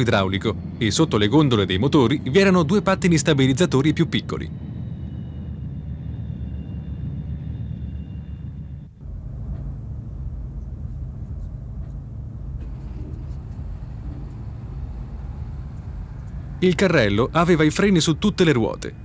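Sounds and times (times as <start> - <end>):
jet engine high whine: 0.0 - 19.0
jet engine rumble: 0.0 - 19.0.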